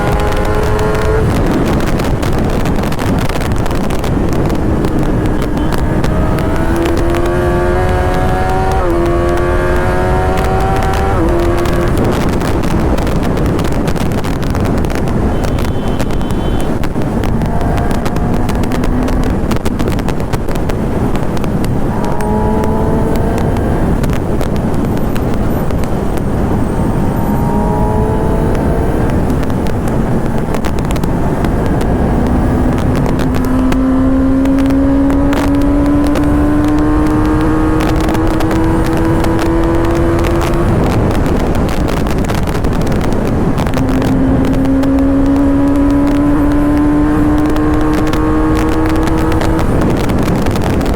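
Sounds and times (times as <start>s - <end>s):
motorcycle engine accelerating: 0.0s - 50.9s
wind rush: 0.0s - 50.9s.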